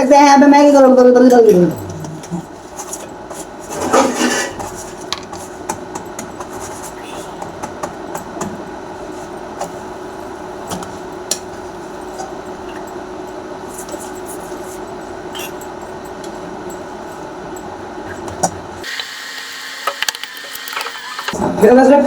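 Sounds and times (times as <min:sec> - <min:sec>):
kitchen hum and hiss: 0:00.0 - 0:22.0.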